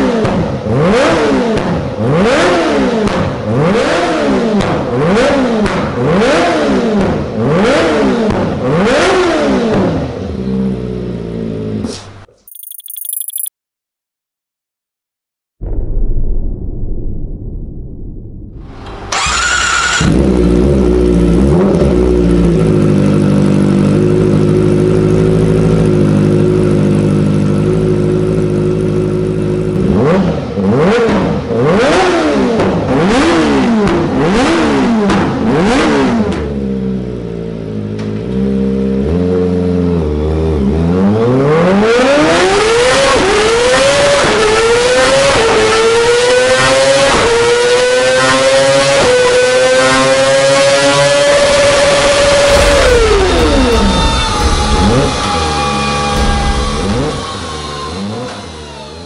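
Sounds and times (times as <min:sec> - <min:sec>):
motorcycle engine revving: 0:00.0 - 0:11.8, 0:18.6 - 0:59.0.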